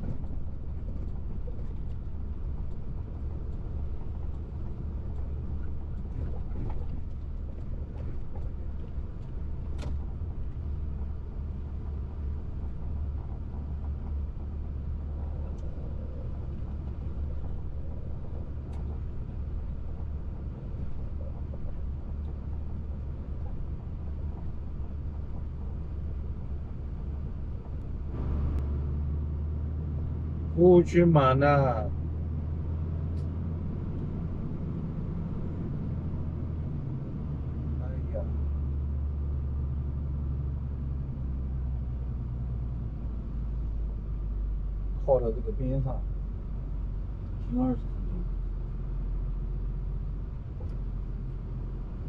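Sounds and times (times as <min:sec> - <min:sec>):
truck engine drone: 0:00.0 - 0:52.0.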